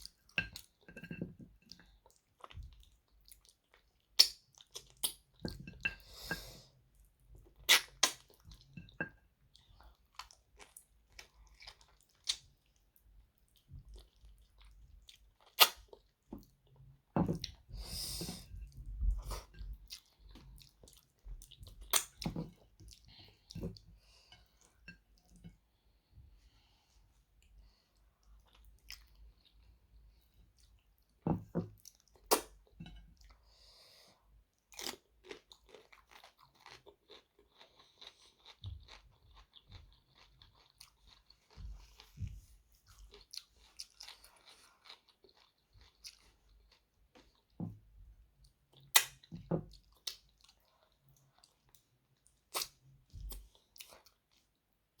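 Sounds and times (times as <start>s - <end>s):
close chewing and mouth sounds: 0.0s - 55.0s.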